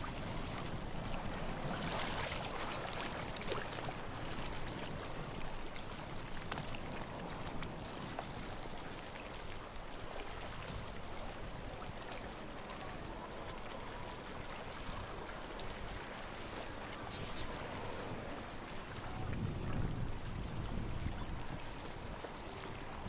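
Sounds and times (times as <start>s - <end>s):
sea water lapping at shore: 0.0s - 23.0s
wind rumbling on microphone: 0.0s - 23.0s.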